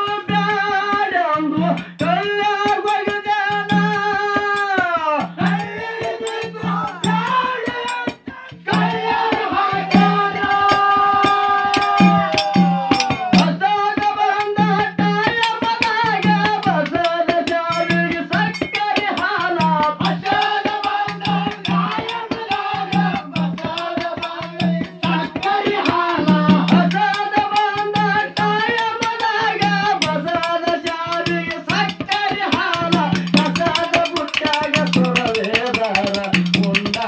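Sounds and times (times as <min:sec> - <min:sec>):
clattering hand percussion: 0:00.0 - 0:37.0
drum beat: 0:00.0 - 0:37.0
person singing: 0:00.0 - 0:37.0.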